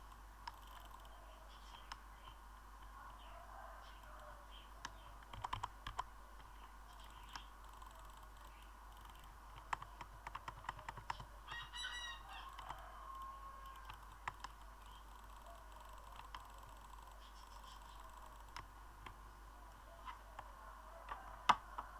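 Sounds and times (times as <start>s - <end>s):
faint scattered clicks: 0.0s - 11.3s, 12.4s - 21.9s.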